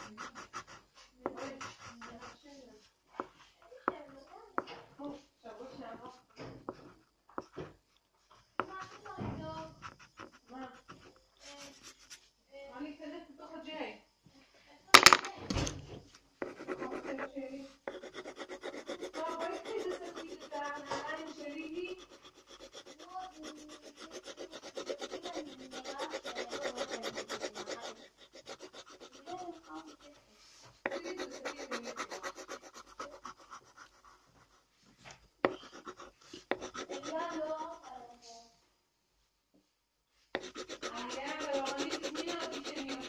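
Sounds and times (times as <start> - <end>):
pencil scratching on paper: 0.0 - 12.3, 16.4 - 34.8, 35.4 - 38.1, 40.3 - 43.0.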